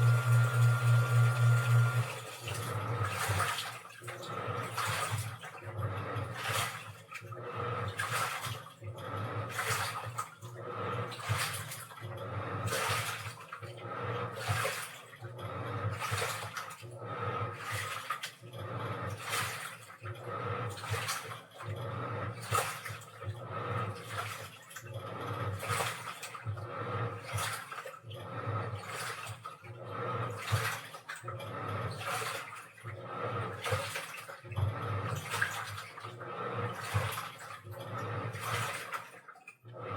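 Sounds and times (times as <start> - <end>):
washing machine motor hum: 0.0 - 39.9
water and laundry sloshing: 0.0 - 39.9.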